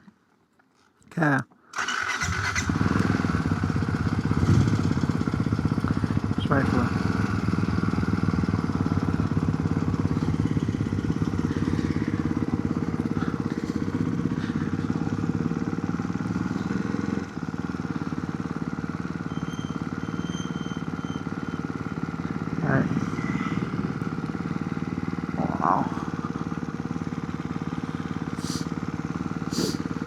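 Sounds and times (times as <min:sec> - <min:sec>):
motorcycle engine running: 0:01.8 - 0:30.0.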